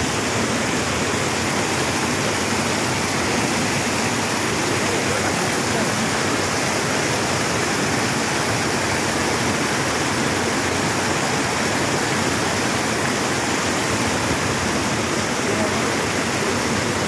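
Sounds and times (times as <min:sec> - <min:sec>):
waterfall rushing and splashing: 0:00.0 - 0:17.0.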